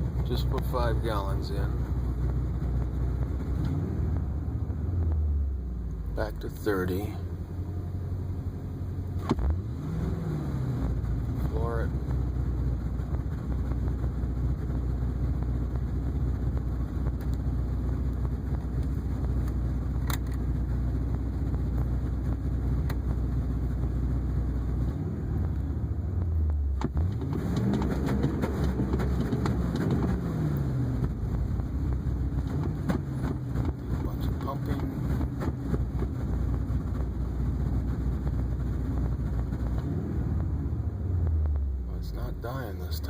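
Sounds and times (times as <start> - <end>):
pickup engine at full throttle: 0.0 - 43.0.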